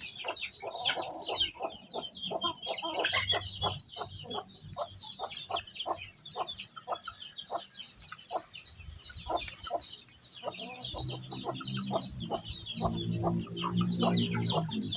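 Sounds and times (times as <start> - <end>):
chickens clucking: 0.0 - 14.9
chicks peeping: 0.0 - 14.9.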